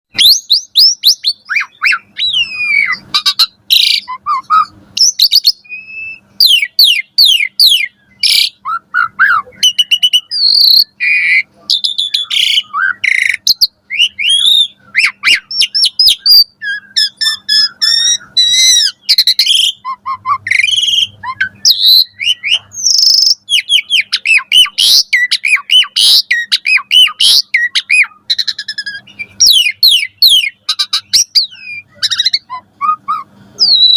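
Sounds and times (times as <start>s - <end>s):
starling singing: 0.1s - 33.9s.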